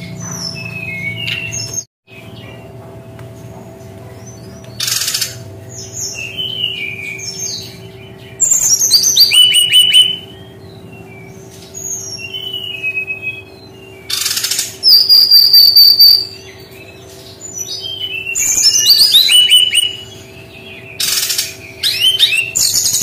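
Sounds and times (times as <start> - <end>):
faint steady hum: 0.0 - 23.0
bird singing whistled phrases: 4.3 - 23.0.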